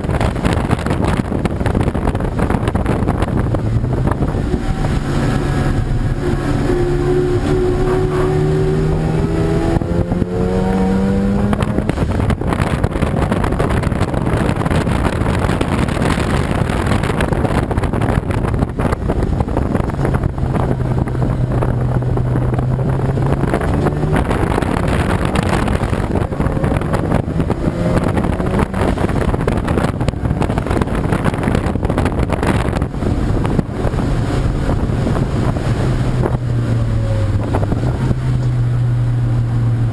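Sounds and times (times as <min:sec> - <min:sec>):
race car engines accelerating: 0:00.0 - 0:39.9
wind noise on microphone: 0:00.0 - 0:39.9.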